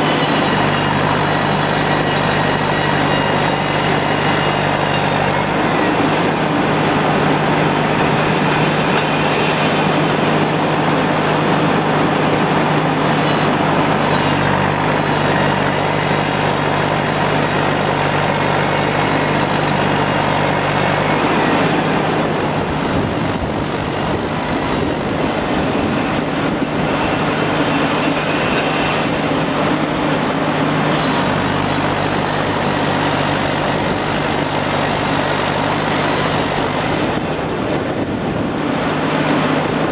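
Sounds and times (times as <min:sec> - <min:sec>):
sawmill machine drone: 0:00.0 - 0:39.9.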